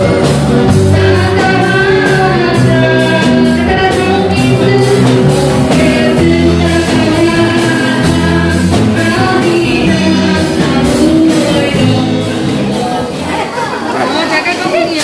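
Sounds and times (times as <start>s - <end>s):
live rock band playing: 0.0s - 15.0s
women singing into microphones: 0.1s - 13.7s.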